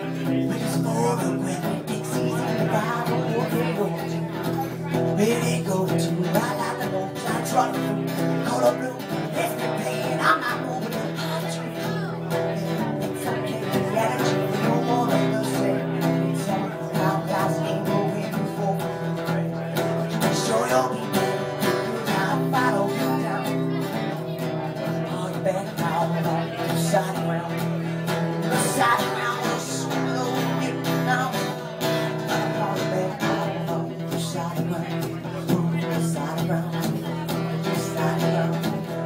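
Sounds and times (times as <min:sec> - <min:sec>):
acoustic guitar strumming: 0:00.0 - 0:39.0
man singing: 0:00.0 - 0:39.0.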